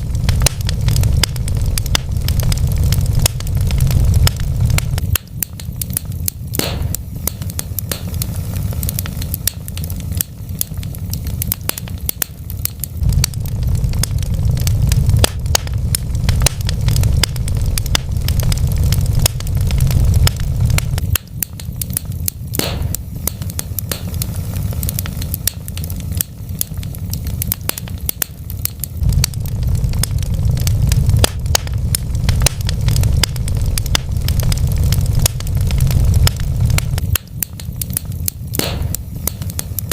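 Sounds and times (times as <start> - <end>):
low rumble: 0.0 - 39.9
wood fire crackling and popping: 0.0 - 39.9.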